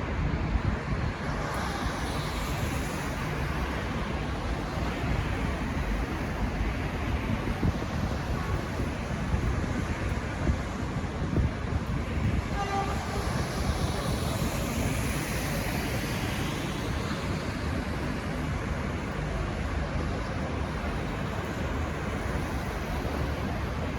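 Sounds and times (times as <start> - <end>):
train rumbling on tracks: 0.0 - 23.9
wind buffeting microphone: 0.0 - 23.9.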